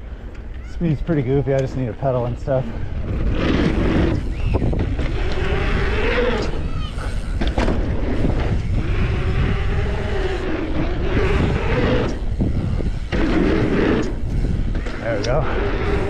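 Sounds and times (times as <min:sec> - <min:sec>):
bike tyres rolling on pavement: 0:00.0 - 0:16.0
wind rushing over microphone: 0:00.8 - 0:16.0.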